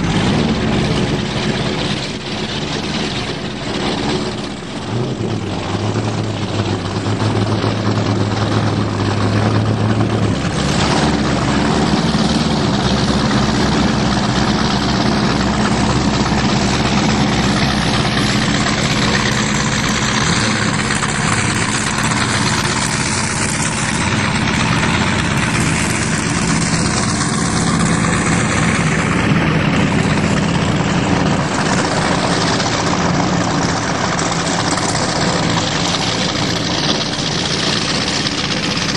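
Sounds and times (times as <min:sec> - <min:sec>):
boat engines droning: 0:00.0 - 0:38.9
rushing wind and water: 0:00.0 - 0:38.9.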